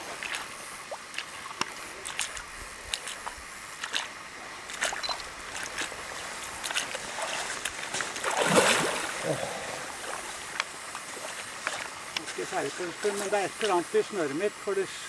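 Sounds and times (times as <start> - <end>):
shallow water lapping and splashing: 0.0 - 13.8.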